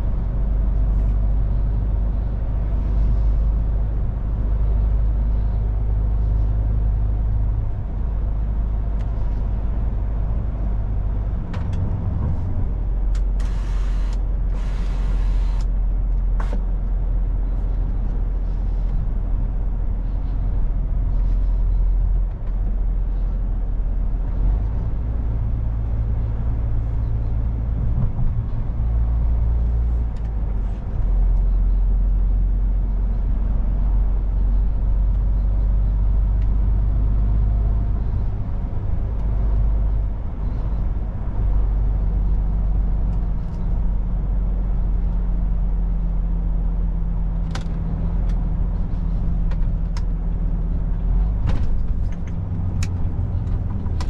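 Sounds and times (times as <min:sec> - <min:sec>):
diesel truck engine droning: 0:00.0 - 0:54.0
road noise: 0:00.0 - 0:54.0.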